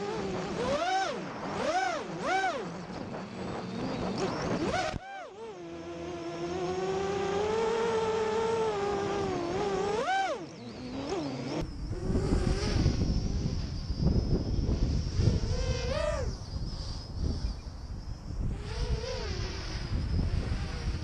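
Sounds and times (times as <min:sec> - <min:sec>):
wind noise on microphone: 0:00.0 - 0:05.1, 0:06.8 - 0:21.0
drone motors whining: 0:00.0 - 0:21.0.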